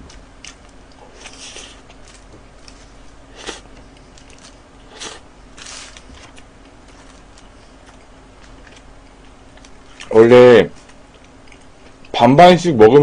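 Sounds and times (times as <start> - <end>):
person chewing a burger: 0.1 - 10.1, 10.7 - 12.2.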